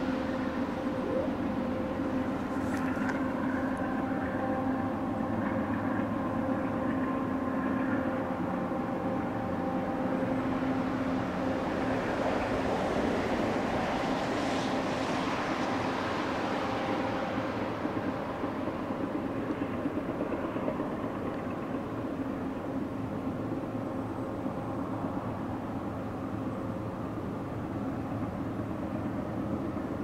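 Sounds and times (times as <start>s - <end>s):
diesel engines droning: 0.0s - 30.0s
rail and wheel noise: 0.0s - 30.0s.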